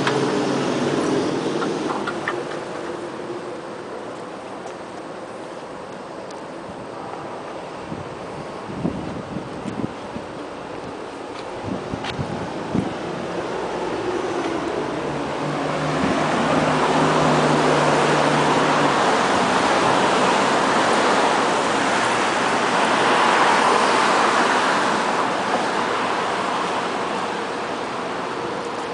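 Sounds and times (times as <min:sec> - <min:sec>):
rush of passing vehicles: 0:00.0 - 0:28.9.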